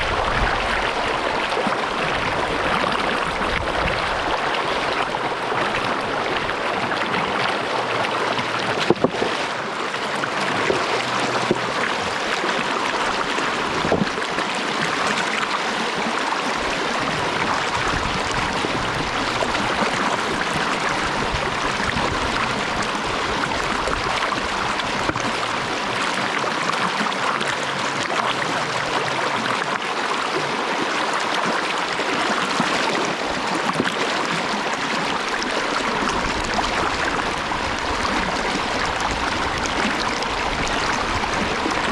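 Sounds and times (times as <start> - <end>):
creek water flowing: 0.0 - 41.9.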